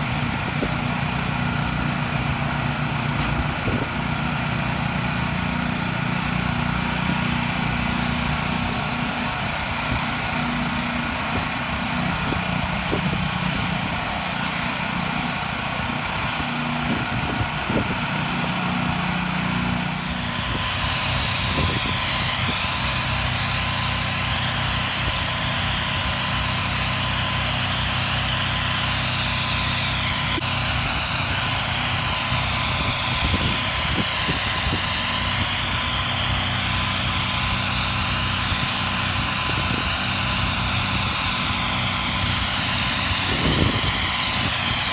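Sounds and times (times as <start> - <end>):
pressure washer engine running: 0.0 - 44.9
water spray hissing on concrete: 0.0 - 44.9.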